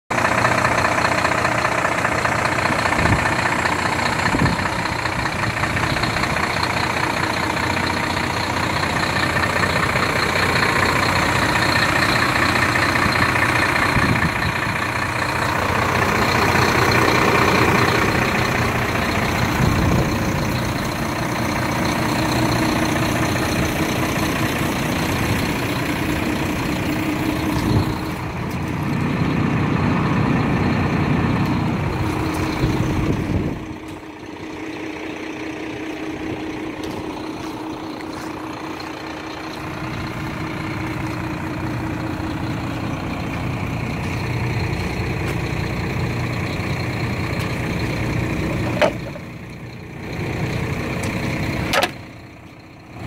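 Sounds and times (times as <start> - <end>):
diesel truck engine idling: 0.1 - 53.0.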